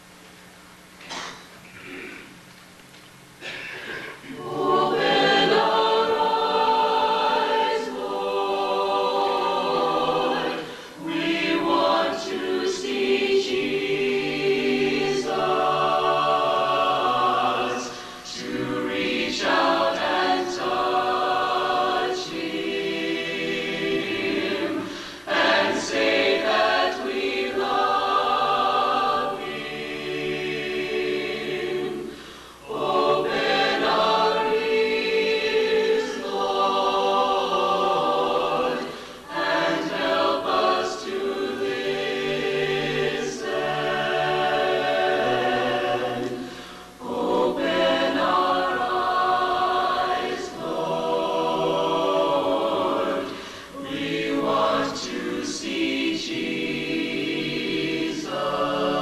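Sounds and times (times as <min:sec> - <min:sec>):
mixed choir singing a hymn: 0:04.2 - 0:59.0.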